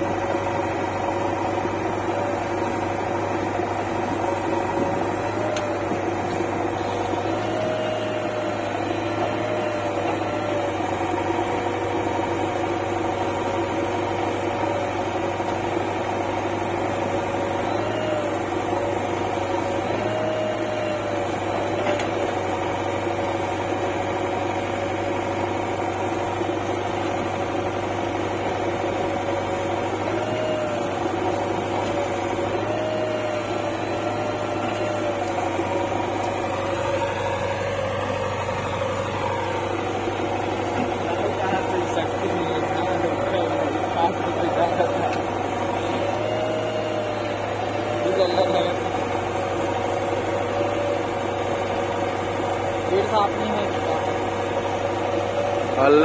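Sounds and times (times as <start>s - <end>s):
diesel engines running: 0.0s - 56.0s
hydraulic whine: 0.0s - 56.0s.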